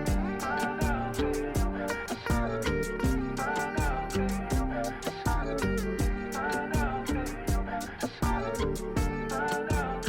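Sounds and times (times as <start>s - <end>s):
plucked guitar: 0.0s - 10.0s
steady beat: 0.0s - 10.0s.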